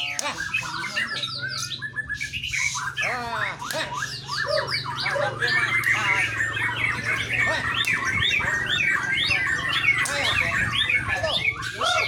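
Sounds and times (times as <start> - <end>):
songbird chirping and whistling: 0.0 - 12.0.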